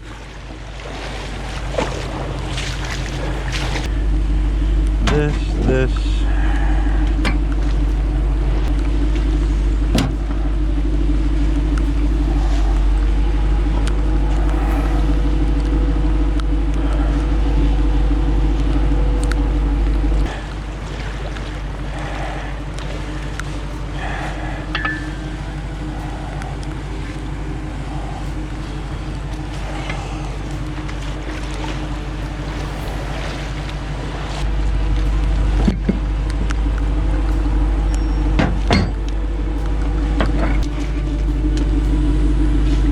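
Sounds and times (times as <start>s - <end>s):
vehicle engine idling: 0.0s - 42.9s.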